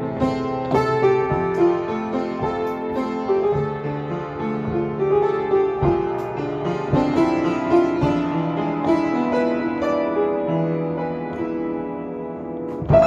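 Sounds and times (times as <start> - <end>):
upright piano melody: 0.0 - 13.0.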